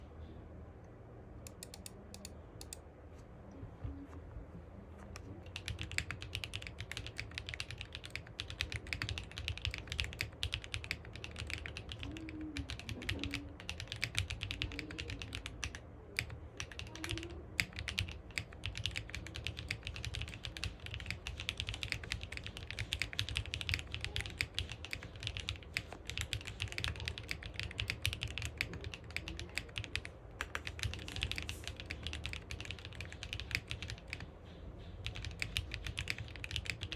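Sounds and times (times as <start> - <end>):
typing on mechanical keyboard: 5.5 - 36.9.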